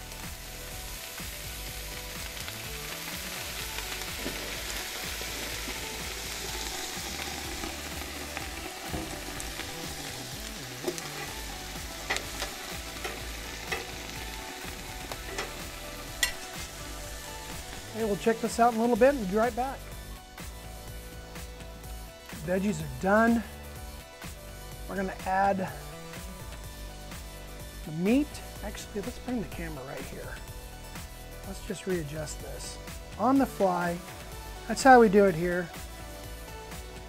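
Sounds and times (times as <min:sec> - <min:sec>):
water sizzling on hot griddle: 0:00.0 - 0:37.0.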